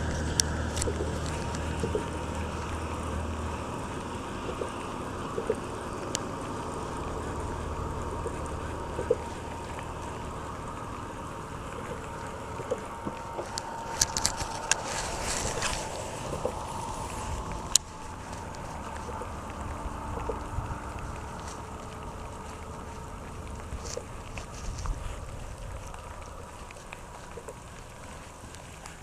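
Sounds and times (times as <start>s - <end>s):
low hum: 0.0s - 29.0s
steady hiss: 0.0s - 29.0s.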